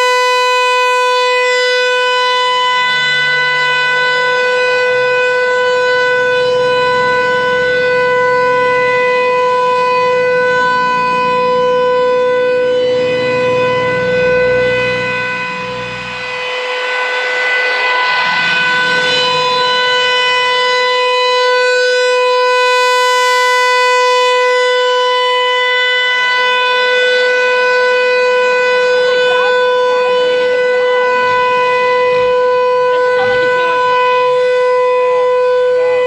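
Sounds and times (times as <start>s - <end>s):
warning siren steady tone: 0.0s - 36.0s.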